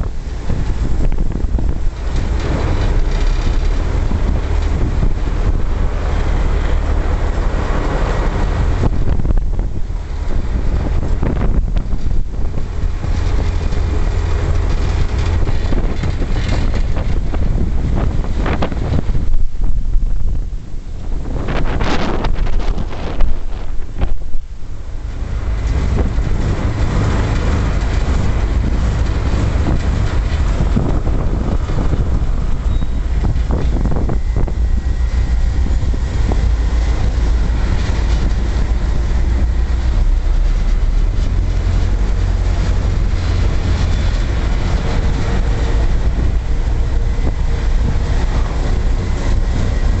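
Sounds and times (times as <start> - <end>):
ferry engine rumbling: 0.0 - 50.0
wind buffeting microphone: 0.0 - 50.0.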